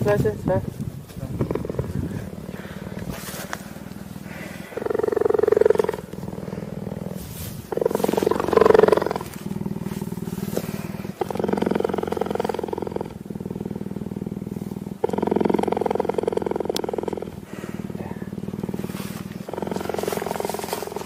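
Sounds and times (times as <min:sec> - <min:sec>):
cheetah purring loudly: 0:00.0 - 0:21.0.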